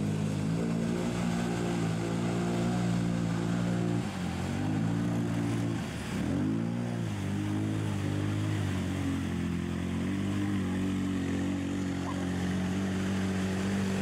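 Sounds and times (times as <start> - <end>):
quad engine running under load: 0.0 - 14.0.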